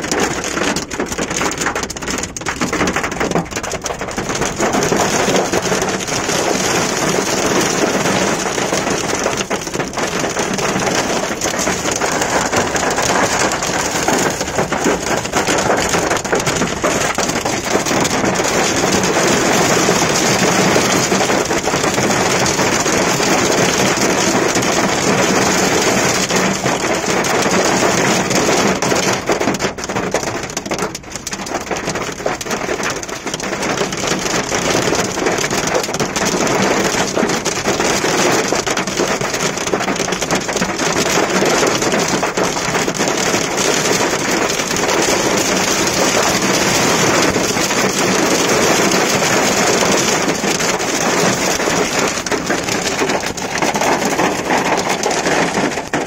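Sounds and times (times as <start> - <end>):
rain and hail drumming on car roof: 0.0 - 56.0.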